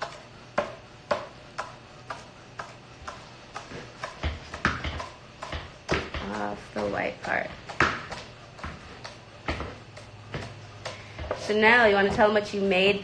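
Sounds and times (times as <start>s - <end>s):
knife chopping on wooden board: 0.0s - 12.2s.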